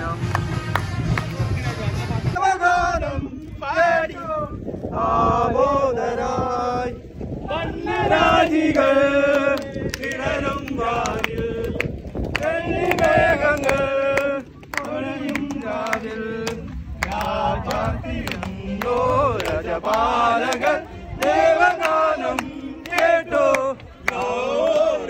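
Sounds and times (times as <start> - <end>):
voices singing a slow chant: 2.4 - 25.0.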